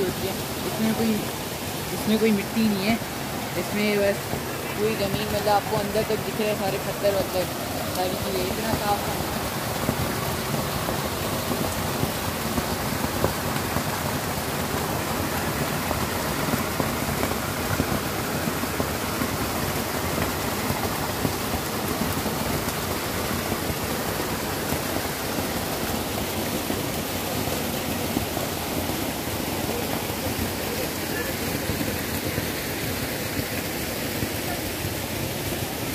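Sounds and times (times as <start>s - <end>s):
stream running over gravel: 0.0s - 35.9s
waterfall spilling over rocks: 0.0s - 35.9s.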